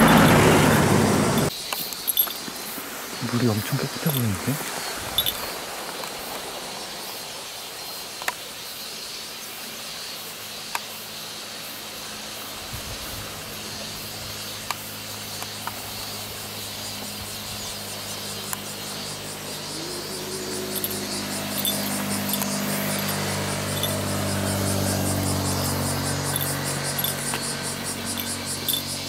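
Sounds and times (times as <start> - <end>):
insect chorus drone: 0.0 - 29.0.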